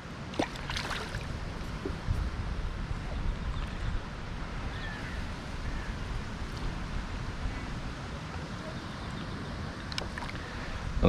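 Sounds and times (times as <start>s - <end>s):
wind buffeting microphone: 0.4s - 11.0s.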